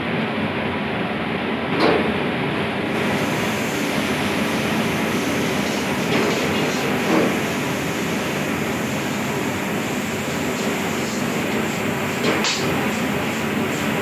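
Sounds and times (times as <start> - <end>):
wok roaring and sizzling: 2.1 - 14.0.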